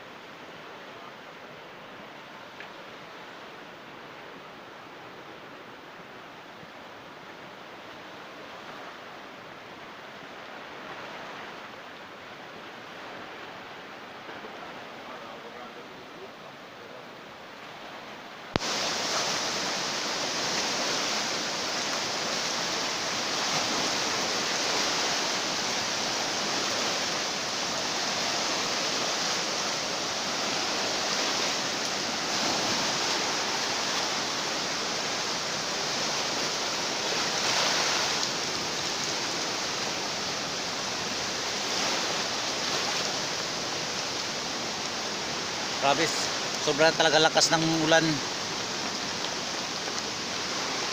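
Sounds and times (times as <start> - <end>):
floodwater rushing: 0.0 - 50.9
heavy rain: 7.8 - 50.9.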